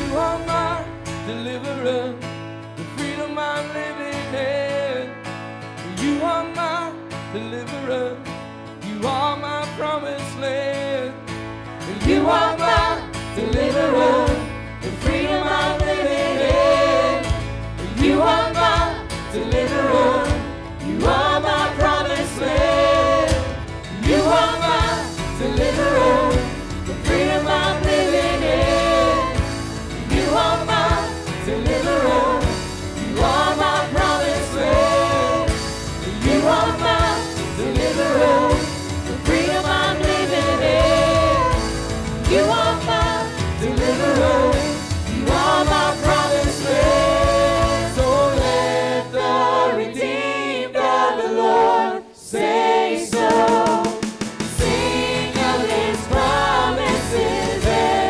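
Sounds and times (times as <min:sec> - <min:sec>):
choir singing a hymn in harmony: 0:00.0 - 0:00.8, 0:11.9 - 0:58.0
band with guitars and bass: 0:00.0 - 0:51.8, 0:52.4 - 0:58.0.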